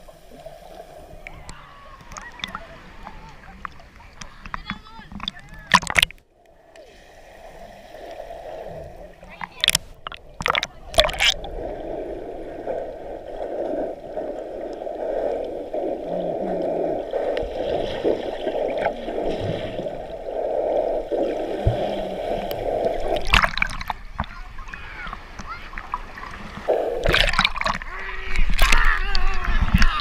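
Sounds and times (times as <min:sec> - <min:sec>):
muffled water gurgling and sloshing: 0:00.0 - 0:30.0
water splashes: 0:00.0 - 0:30.0.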